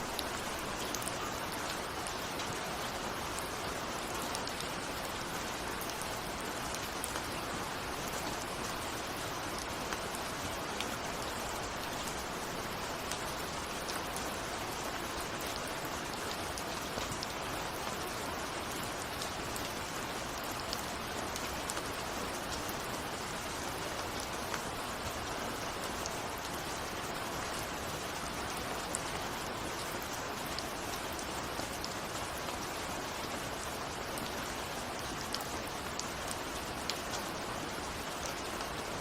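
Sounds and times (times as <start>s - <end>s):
rain drops ticking on a window: 0.0s - 39.0s.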